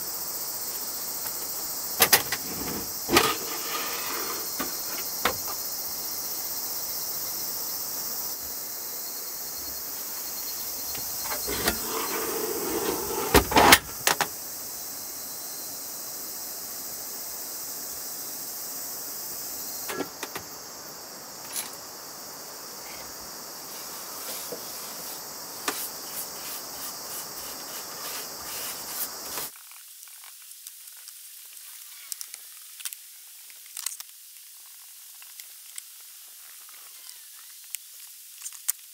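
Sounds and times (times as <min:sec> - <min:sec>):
steady high hiss: 0:00.0 - 0:38.9.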